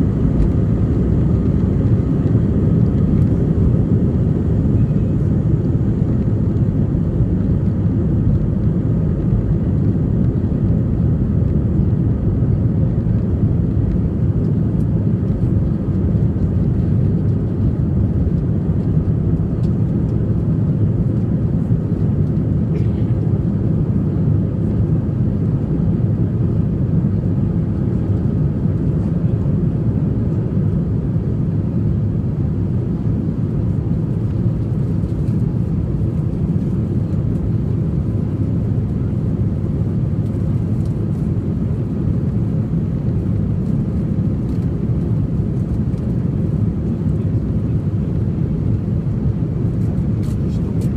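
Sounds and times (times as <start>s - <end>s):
jet engines and airflow rumble: 0.0s - 50.9s.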